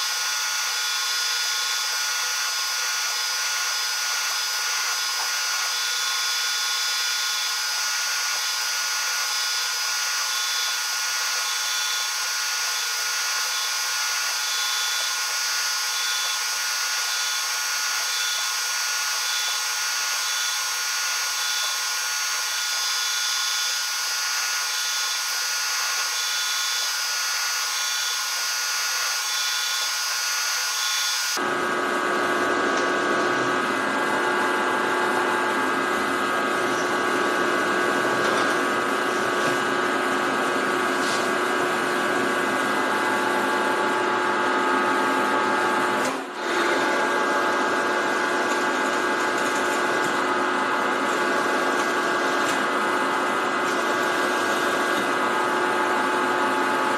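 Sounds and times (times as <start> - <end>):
drill machine whining through metal: 0.0 - 56.9.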